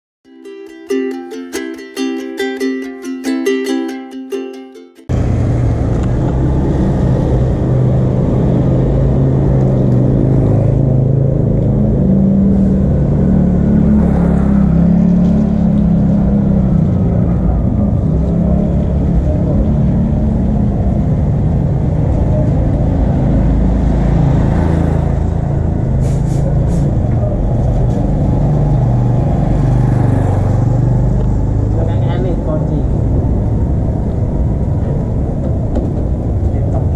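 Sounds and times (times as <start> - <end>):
vehicle engines rumbling: 5.1 - 36.9.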